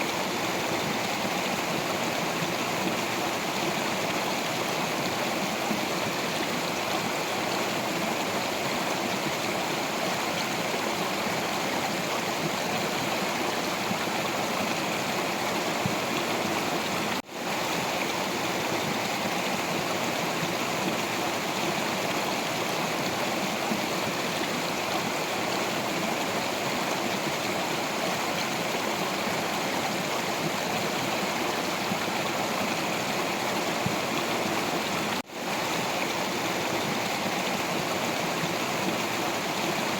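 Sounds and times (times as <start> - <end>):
water flowing over rocks: 0.0 - 39.9.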